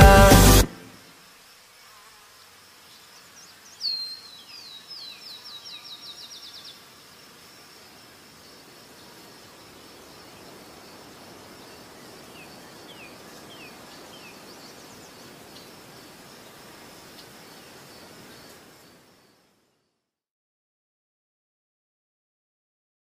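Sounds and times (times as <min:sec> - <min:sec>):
high insect drone: 0:00.1 - 0:19.6.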